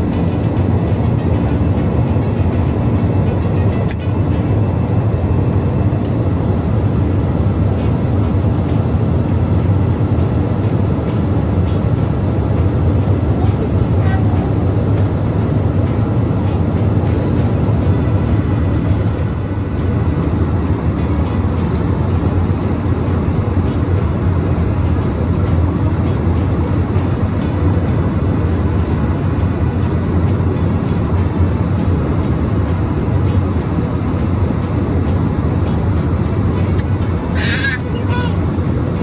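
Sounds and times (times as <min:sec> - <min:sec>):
airliner cabin engine rumble: 0:00.0 - 0:39.0.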